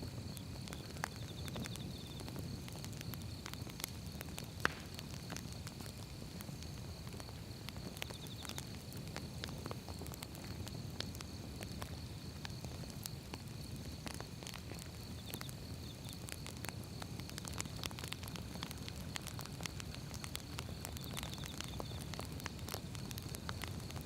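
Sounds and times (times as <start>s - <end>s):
firewood popping and crackling: 0.0s - 24.0s
low rumble of flames: 0.0s - 24.0s.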